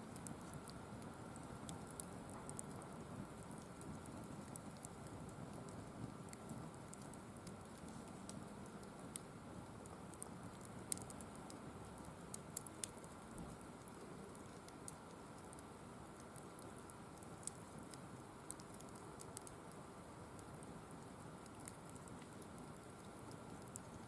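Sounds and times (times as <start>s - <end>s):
faint steady noise: 0.0s - 24.0s
firewood crackling and popping: 0.0s - 24.0s.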